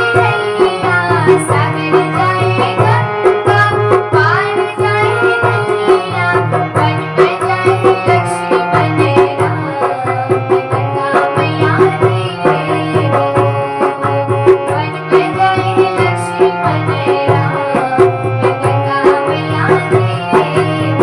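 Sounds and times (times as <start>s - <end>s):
instrumental melody: 0.0s - 21.0s
tabla rhythm: 0.0s - 21.0s.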